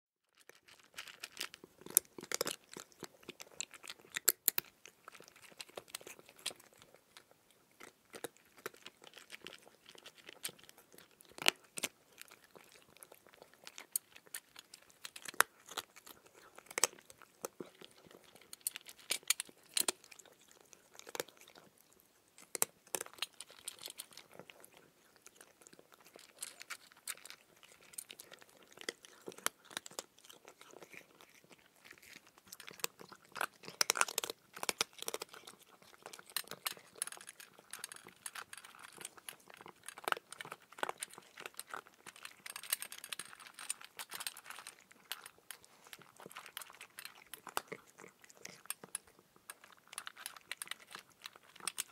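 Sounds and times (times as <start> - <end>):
cat crunching food: 0.3 - 51.9.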